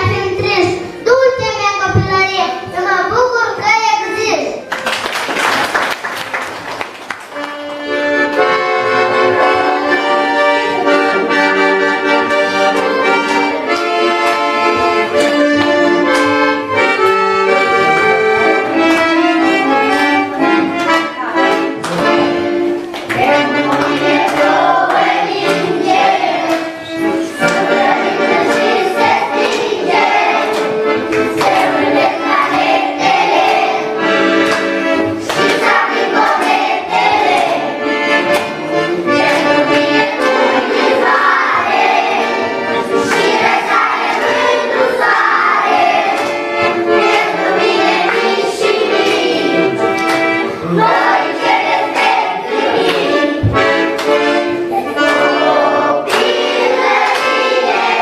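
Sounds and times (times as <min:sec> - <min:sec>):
accordion playing chords: 0:00.0 - 0:58.0
children singing: 0:08.1 - 0:21.0, 0:21.9 - 0:58.0.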